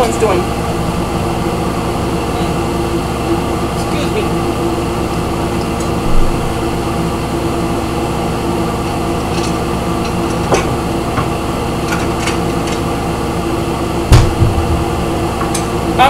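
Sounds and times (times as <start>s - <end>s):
range hood fan humming: 0.0s - 16.0s.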